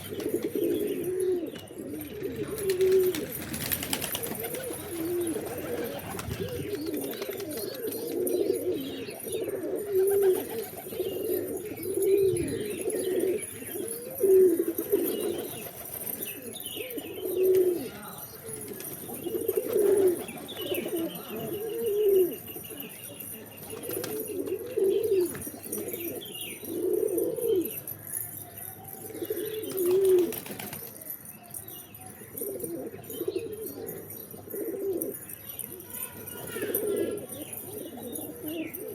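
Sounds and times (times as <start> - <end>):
pigeons cooing: 0.0 - 31.0, 32.2 - 38.9.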